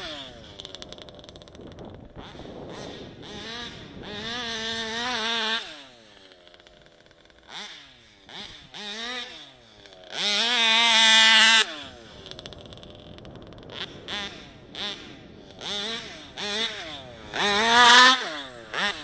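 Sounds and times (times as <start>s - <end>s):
two-stroke model engine revving: 0.0s - 19.0s.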